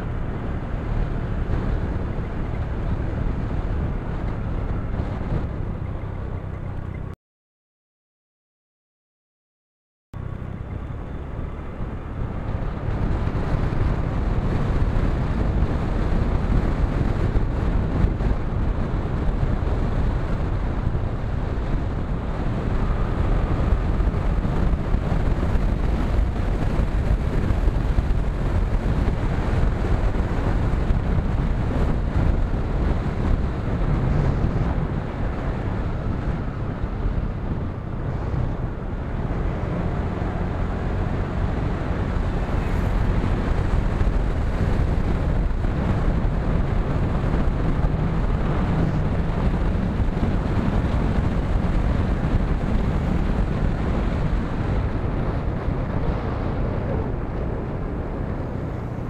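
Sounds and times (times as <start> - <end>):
wind buffeting microphone: 0.0 - 7.1, 10.2 - 59.0
road noise rumble: 0.0 - 7.2, 10.2 - 59.0.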